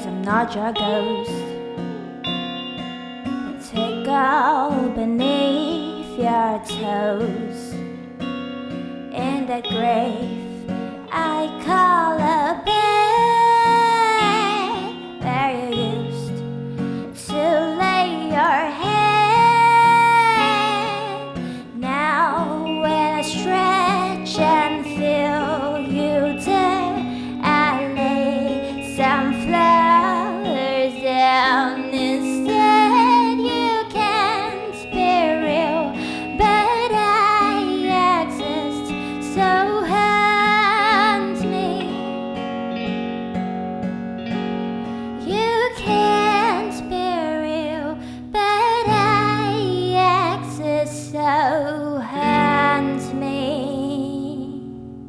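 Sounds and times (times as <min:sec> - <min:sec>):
woman singing wordless melody: 0:00.0 - 0:43.2, 0:44.9 - 0:55.0
acoustic guitar: 0:00.0 - 0:55.0.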